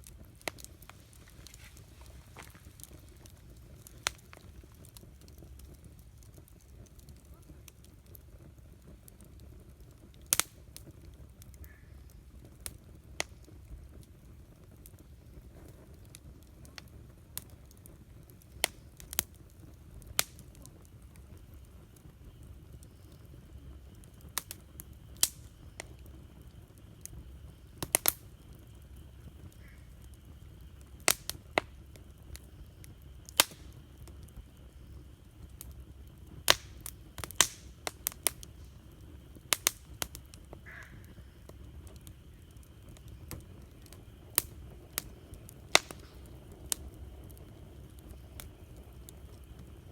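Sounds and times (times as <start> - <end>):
campfire crackling and popping: 0.0 - 49.9
low rumble of burning fire: 0.0 - 49.9.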